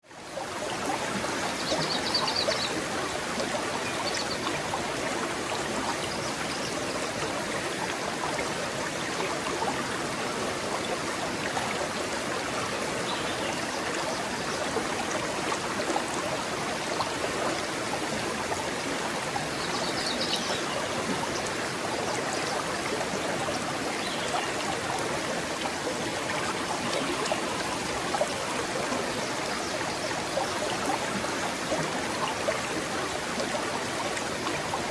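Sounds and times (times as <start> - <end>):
stream trickling over stones: 0.1 - 34.9.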